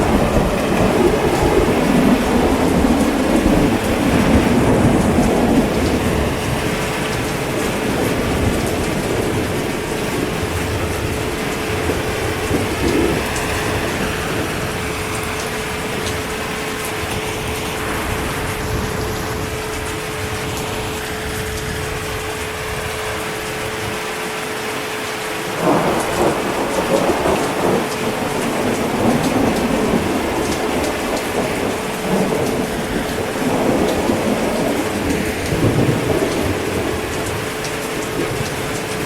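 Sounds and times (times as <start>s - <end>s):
heavy rain: 0.0s - 39.0s
thunder rumbling: 0.0s - 39.0s.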